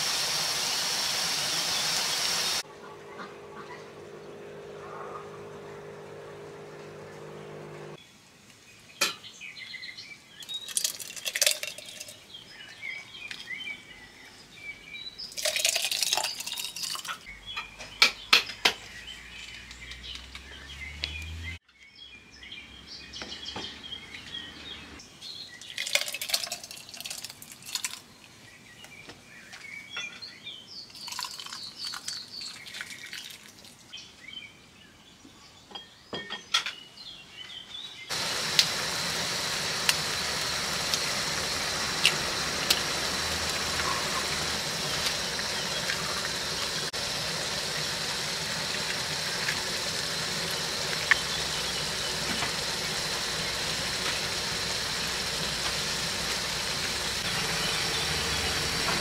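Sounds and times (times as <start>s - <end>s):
birds chirping: 1.5s - 8.0s, 8.8s - 26.0s, 28.1s - 59.0s.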